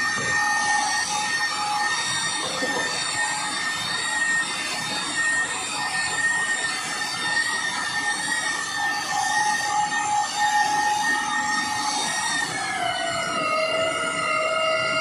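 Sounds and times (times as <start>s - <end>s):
electric car polisher whine: 0.0s - 15.0s.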